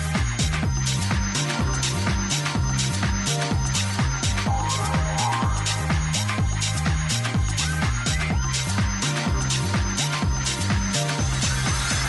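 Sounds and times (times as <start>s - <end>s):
electronic dance ringtone: 0.0s - 12.0s.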